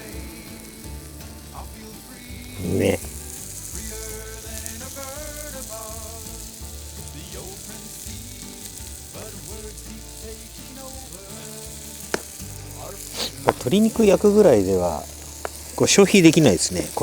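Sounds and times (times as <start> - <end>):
chicken sizzling on a griddle: 0.0 - 17.0.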